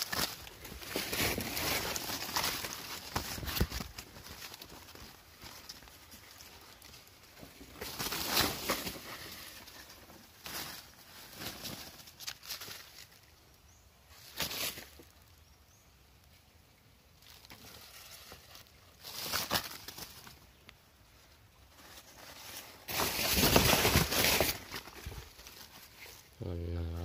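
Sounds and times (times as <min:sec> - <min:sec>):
dry leaves rustling and crackling: 0:00.0 - 0:15.8, 0:17.1 - 0:26.5.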